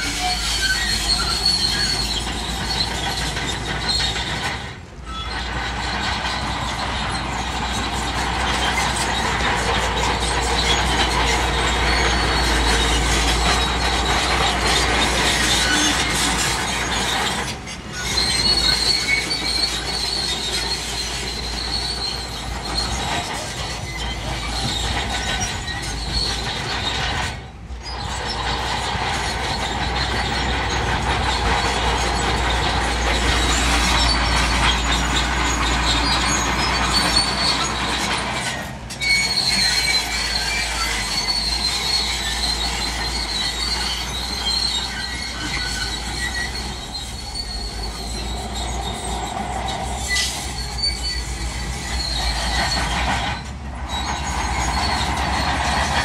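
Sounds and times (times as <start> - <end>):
bulldozer diesel engine under load: 0.0 - 56.0
crawler tracks squealing and clanking: 0.0 - 56.0.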